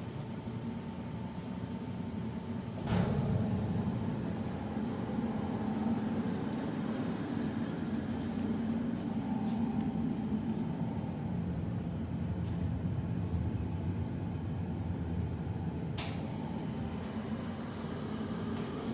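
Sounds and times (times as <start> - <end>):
low mechanical drone with hum: 0.0 - 18.9.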